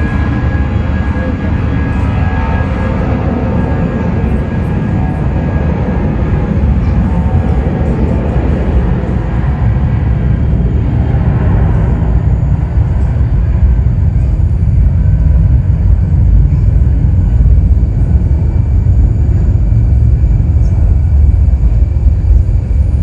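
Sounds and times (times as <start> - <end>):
jet airliner engines rumbling: 0.0 - 23.0.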